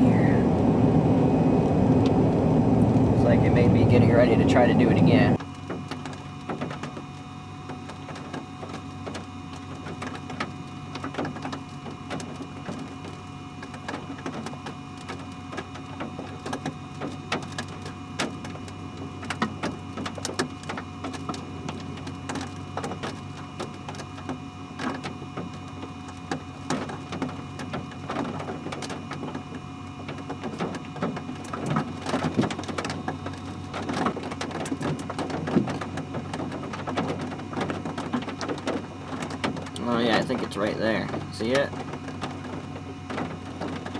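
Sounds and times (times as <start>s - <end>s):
low hum inside car: 0.0s - 43.9s
raindrops ticking on car: 2.4s - 43.9s.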